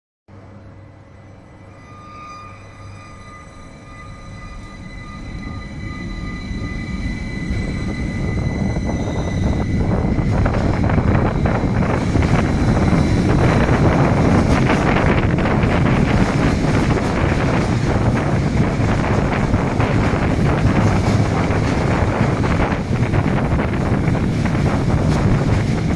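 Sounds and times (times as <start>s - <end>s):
electric train whine: 0.3s - 25.9s
rumble of running train: 0.3s - 25.9s.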